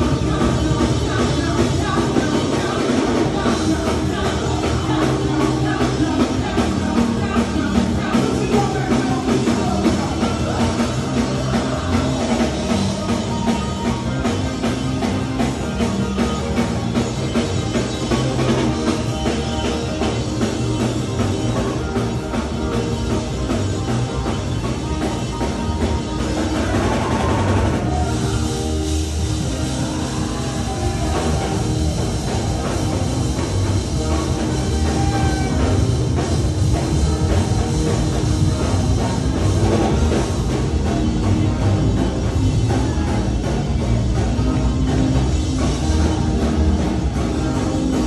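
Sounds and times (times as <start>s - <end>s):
drum kit beat: 0.0s - 48.0s
live rock band playing: 0.0s - 48.0s
person singing: 0.0s - 48.0s.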